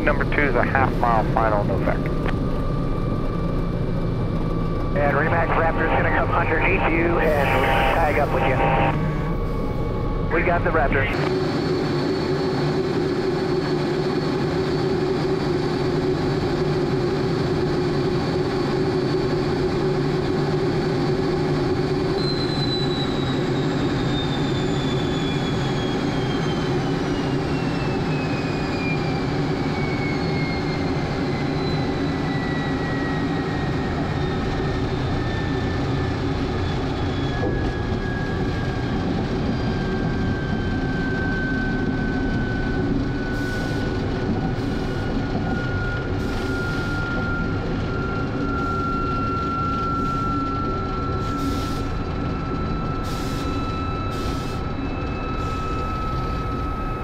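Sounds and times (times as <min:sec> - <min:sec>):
jet engine rumbling: 0:00.0 - 0:57.0
turbine whine falling in pitch: 0:00.0 - 0:57.0.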